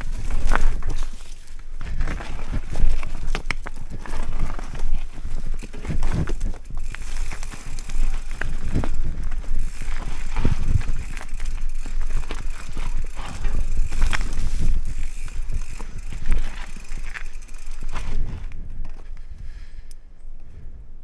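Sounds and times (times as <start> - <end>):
mountain bike rattling on trail: 0.0 - 19.7.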